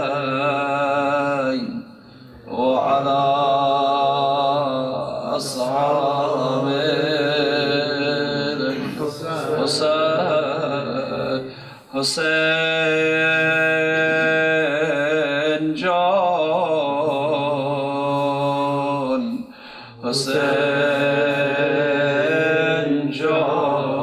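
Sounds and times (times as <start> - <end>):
man chanting unaccompanied: 0.0 - 24.0.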